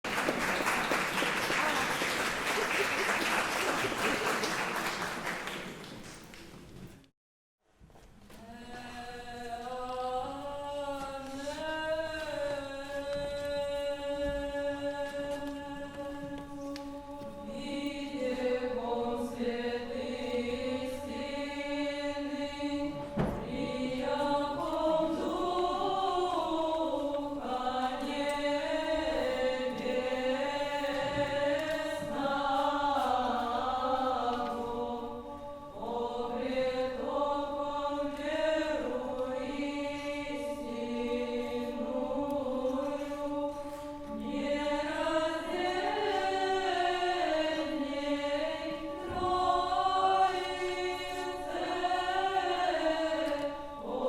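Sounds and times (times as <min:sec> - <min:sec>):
unaccompanied choral chant: 0:00.1 - 0:06.0, 0:08.4 - 0:54.0.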